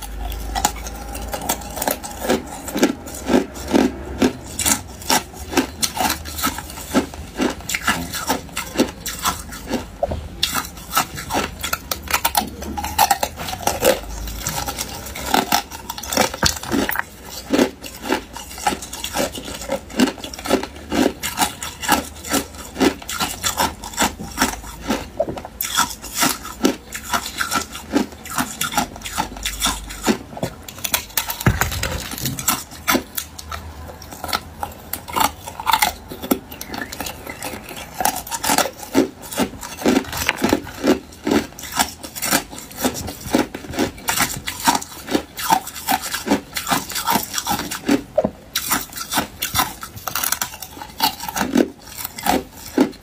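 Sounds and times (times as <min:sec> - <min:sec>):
ice cubes crunching: 0:00.0 - 0:53.0.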